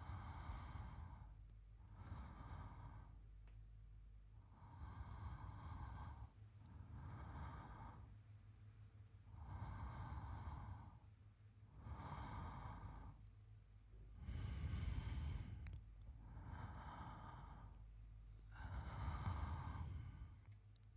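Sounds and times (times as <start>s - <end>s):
man breathing slowly: 0.0s - 3.3s, 4.4s - 8.2s, 9.2s - 13.3s, 13.9s - 20.6s.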